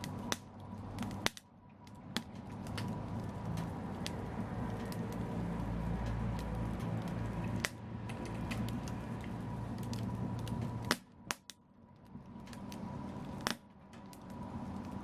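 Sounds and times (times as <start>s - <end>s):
loud fire pops: 0.0s - 15.0s
low fire rumble: 0.0s - 15.0s
wood fire crackling: 0.0s - 15.0s.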